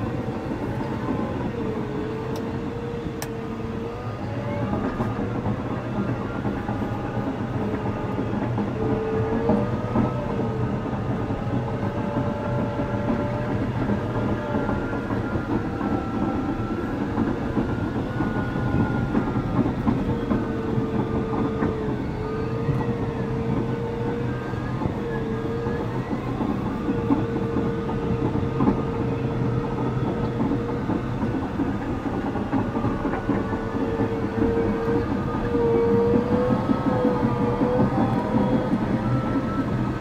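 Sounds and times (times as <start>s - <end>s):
bulldozer diesel engine rumbling: 0.0s - 40.0s
steel tracks clattering: 0.0s - 40.0s.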